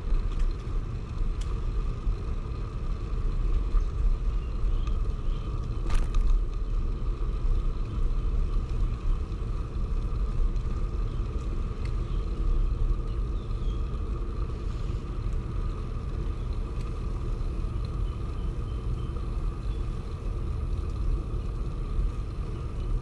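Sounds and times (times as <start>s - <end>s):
tyres rumbling on path: 0.0s - 23.0s.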